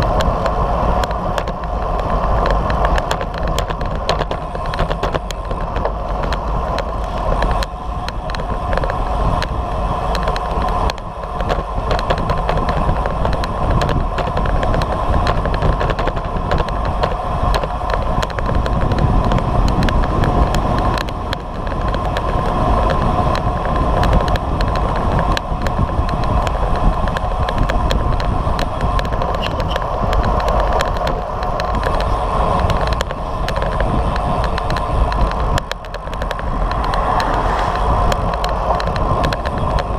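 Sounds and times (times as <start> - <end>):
small clicks and rattles: 0.0 - 39.9
tyre road noise: 0.0 - 39.9
wind rushing over microphone: 0.0 - 39.9.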